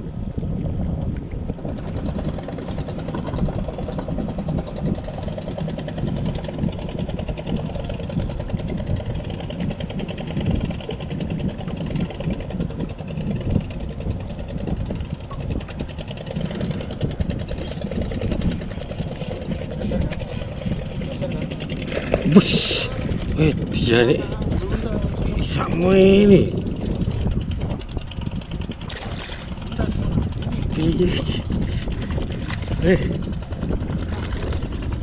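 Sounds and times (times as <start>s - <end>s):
boat engine idling: 0.1s - 35.0s.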